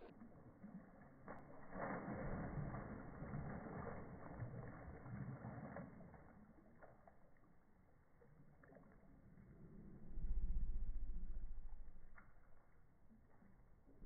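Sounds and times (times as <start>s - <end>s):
water splashing in paddling pool: 0.0s - 14.0s.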